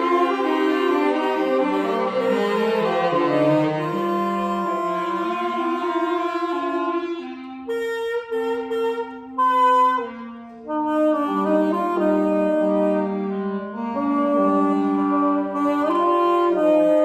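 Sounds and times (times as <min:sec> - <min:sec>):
clarinet and saxophones holding notes: 0:00.0 - 0:17.0.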